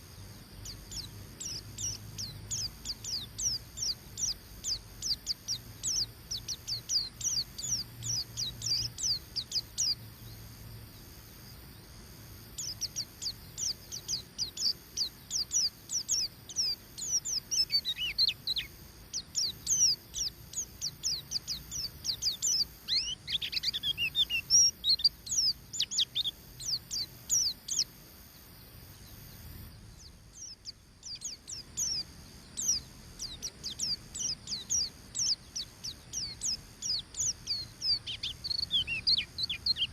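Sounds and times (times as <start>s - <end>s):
bird chirping rapidly: 0.6s - 11.1s, 12.5s - 28.0s, 29.0s - 39.9s.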